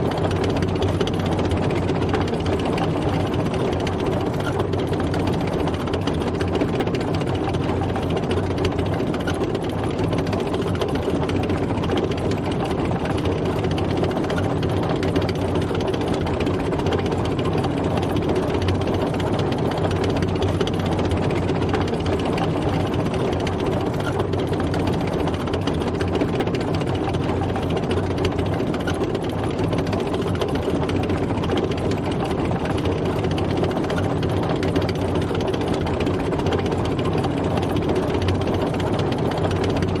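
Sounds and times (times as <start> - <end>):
tank engine rumbling and rattling: 0.0 - 40.0.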